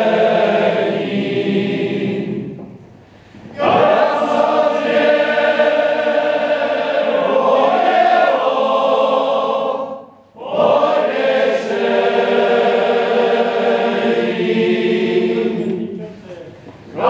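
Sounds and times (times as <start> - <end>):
men's choir singing: 0.0 - 2.7, 3.4 - 16.0, 16.8 - 17.0.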